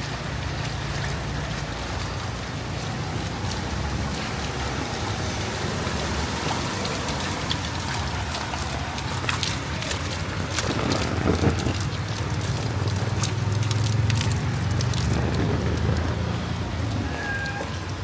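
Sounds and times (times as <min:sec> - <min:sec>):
rain on wet street: 0:00.0 - 0:18.0
vehicle engine humming: 0:00.0 - 0:18.0.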